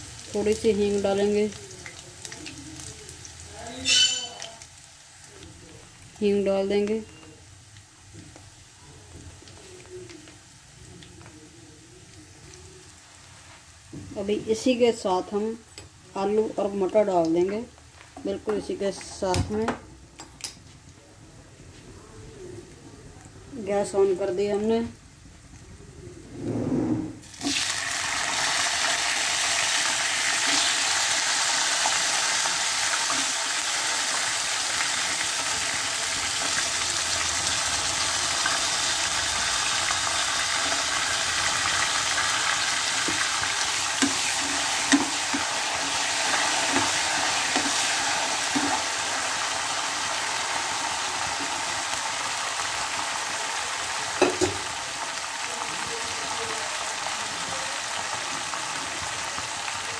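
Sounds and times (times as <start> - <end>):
vegetables sizzling in hot oil: 0.0 - 19.5, 27.2 - 59.9.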